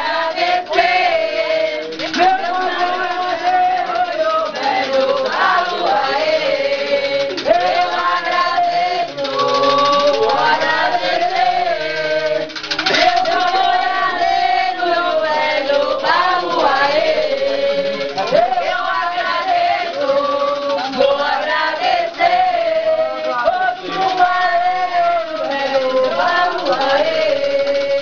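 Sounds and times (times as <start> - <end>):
group singing a chant: 0.0 - 28.0.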